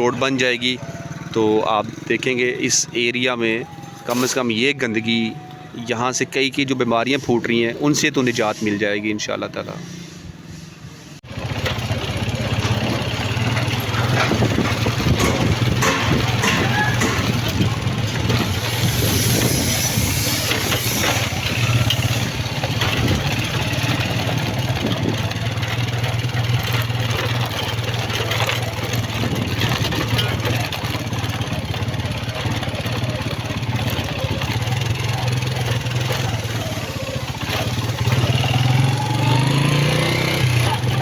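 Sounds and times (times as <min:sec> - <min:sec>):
motorcycle engine running: 0:00.0 - 0:04.4, 0:11.3 - 0:41.0.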